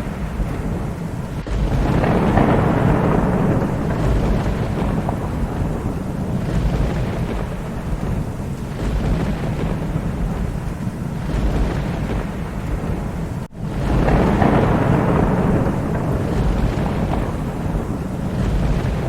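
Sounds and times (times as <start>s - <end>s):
steady rain: 0.0s - 19.0s
thunder rolling: 0.0s - 19.0s.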